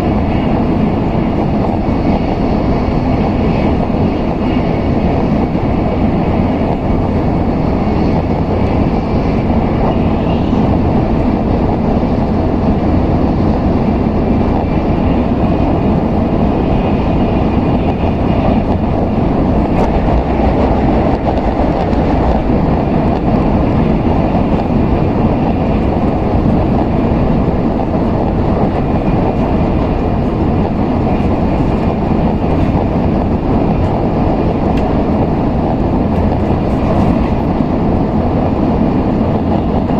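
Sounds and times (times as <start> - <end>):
train running rumble from cabin: 0.0 - 39.9.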